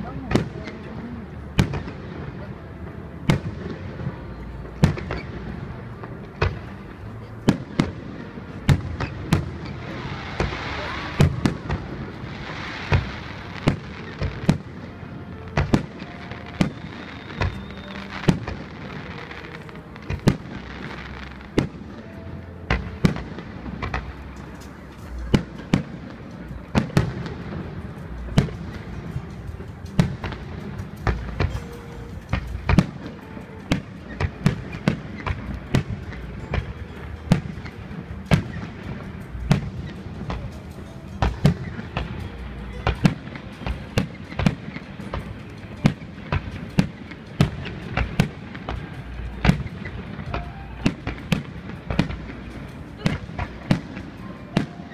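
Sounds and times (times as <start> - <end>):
fireworks bursting with sharp bangs: 0.0 - 54.9.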